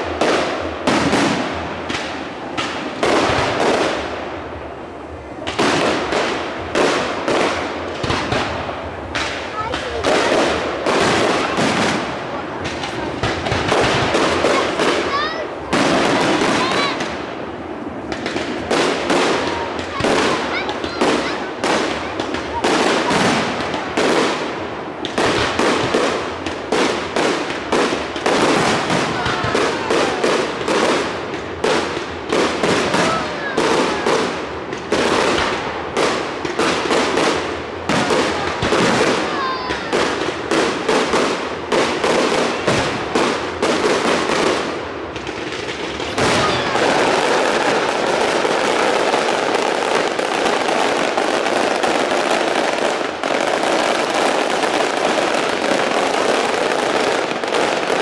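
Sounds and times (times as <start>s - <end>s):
fireworks crackling: 0.0s - 58.0s
firework shells bursting: 5.4s - 58.0s.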